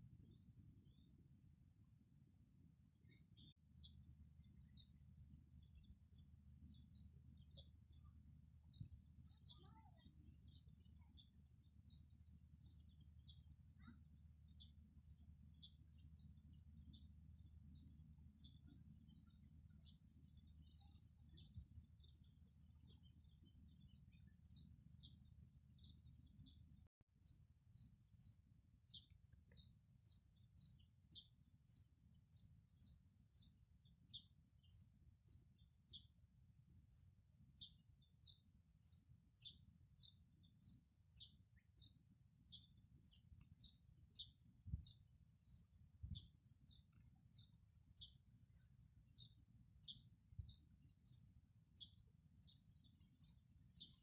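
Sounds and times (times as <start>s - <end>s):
small birds chirping: 0.0s - 1.4s, 3.0s - 54.0s.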